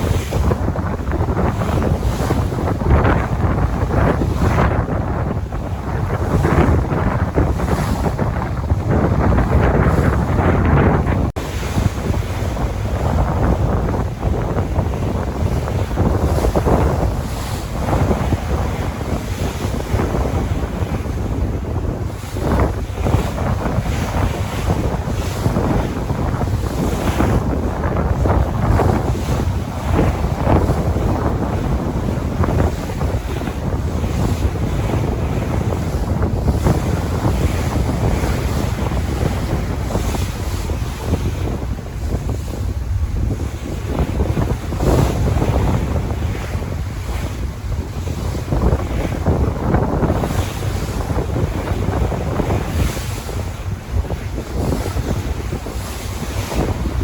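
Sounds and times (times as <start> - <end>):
sea waves breaking: 0.0 - 57.0
wind buffeting microphone: 0.0 - 57.0.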